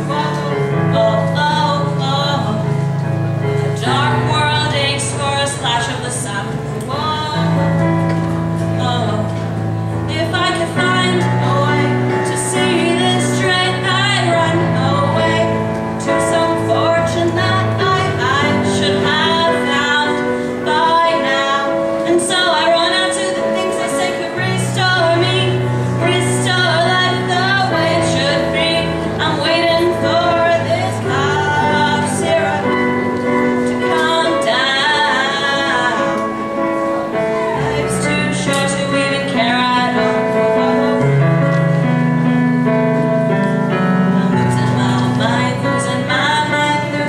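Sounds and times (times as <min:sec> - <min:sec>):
woman singing: 0:00.0 - 0:02.9, 0:03.5 - 0:41.8, 0:43.7 - 0:47.0
electronic keyboard chords: 0:00.0 - 0:47.0.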